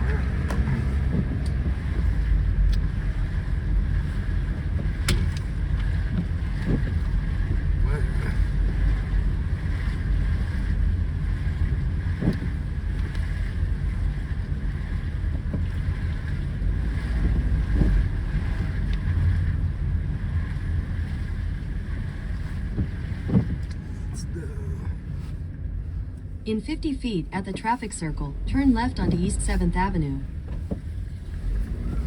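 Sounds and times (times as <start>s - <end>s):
car engine drone: 0.0s - 32.0s
road and tyre noise: 0.0s - 32.0s.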